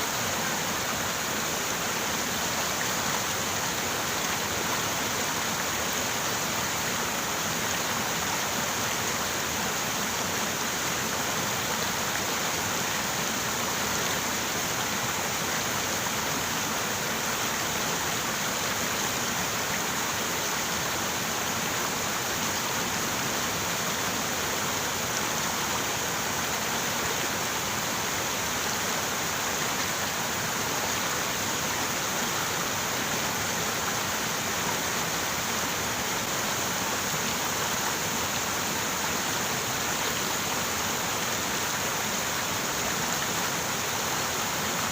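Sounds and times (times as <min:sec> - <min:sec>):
river water over rocks: 0:00.0 - 0:44.9.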